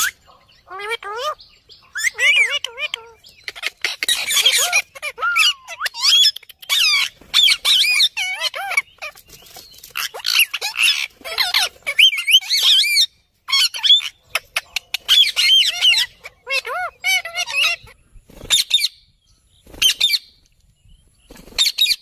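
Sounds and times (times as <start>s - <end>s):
parakeets squawking: 0.0s - 19.0s.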